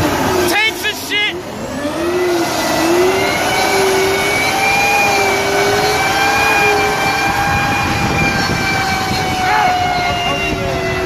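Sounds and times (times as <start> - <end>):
gas turbine engine whining: 0.0 - 11.0.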